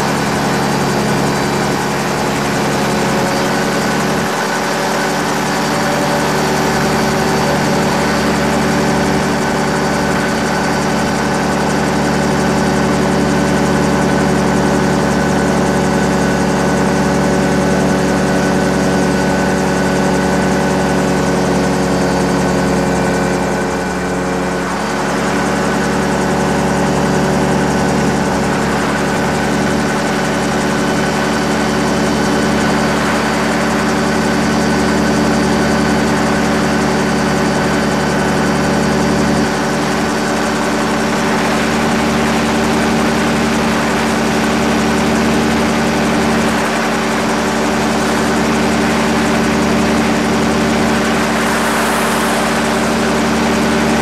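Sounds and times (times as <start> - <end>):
gyrocopter engine and propeller: 0.0 - 54.0.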